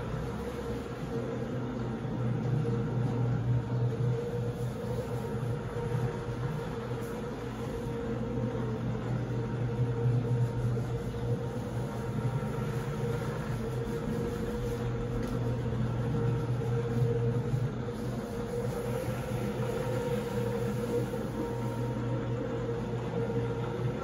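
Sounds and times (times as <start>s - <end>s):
floor machine motor hum: 0.0s - 24.0s.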